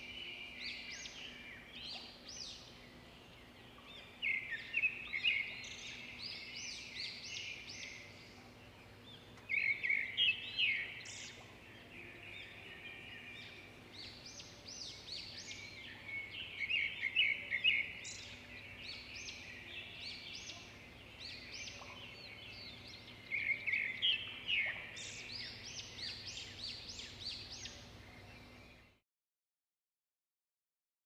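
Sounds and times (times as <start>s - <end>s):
birds singing and chirping: 0.0s - 29.0s.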